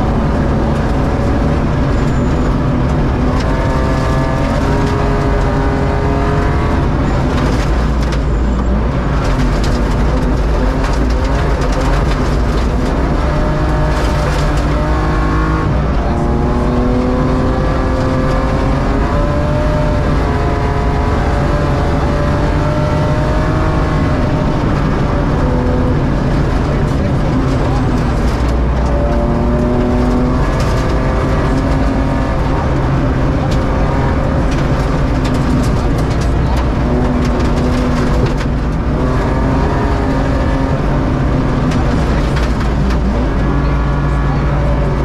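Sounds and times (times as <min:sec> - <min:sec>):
car engine revving: 0:00.0 - 0:45.0
gravel and road rumble: 0:00.0 - 0:45.0.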